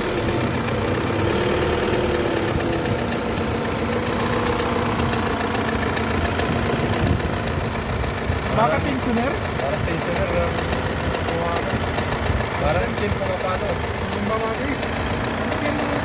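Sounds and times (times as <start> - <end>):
diesel engine knocking: 0.0 - 16.0.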